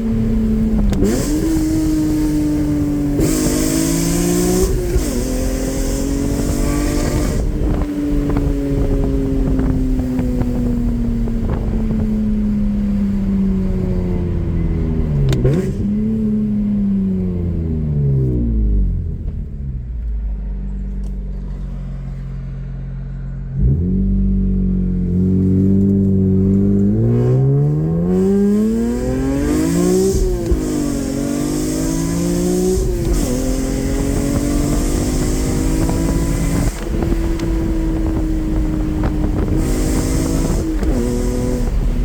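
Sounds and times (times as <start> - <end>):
wind noise: 0.0 - 19.7, 25.2 - 42.0
car engine accelerating: 0.0 - 42.0.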